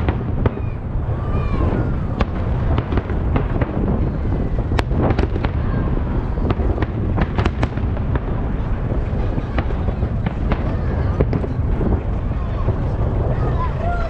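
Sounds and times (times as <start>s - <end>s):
continuous low rumble: 0.0s - 14.0s
fireworks bangs and crackles: 0.0s - 14.0s.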